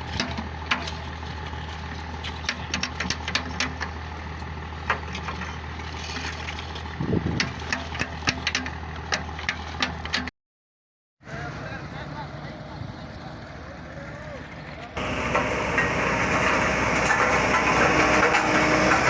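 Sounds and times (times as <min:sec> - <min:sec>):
road roller engine humming: 0:00.0 - 0:10.3, 0:11.2 - 0:19.0.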